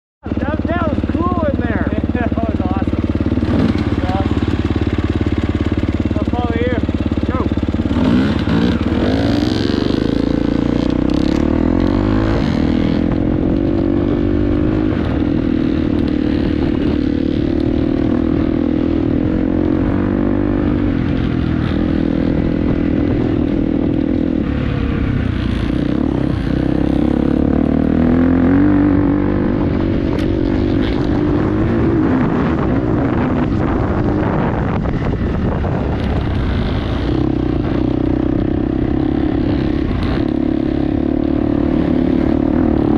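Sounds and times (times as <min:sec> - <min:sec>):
dirt bike engine revving: 0:00.2 - 0:42.9.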